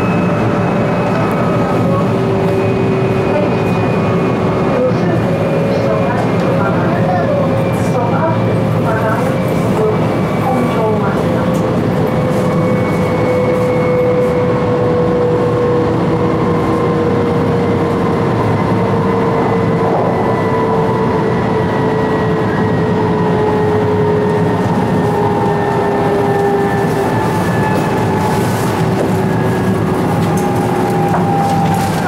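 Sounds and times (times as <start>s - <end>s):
high-speed train rushing noise: 0.0s - 32.0s.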